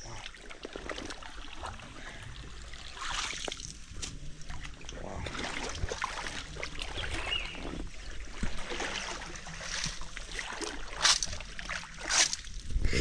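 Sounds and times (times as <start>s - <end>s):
pond water sloshing and trickling: 0.0s - 12.9s.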